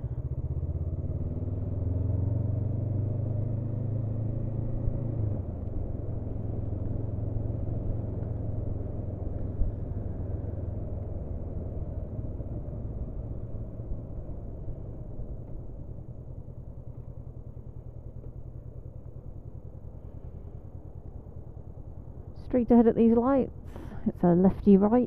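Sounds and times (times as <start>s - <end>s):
motorcycle engine running: 0.0s - 25.0s
road noise: 0.0s - 25.0s.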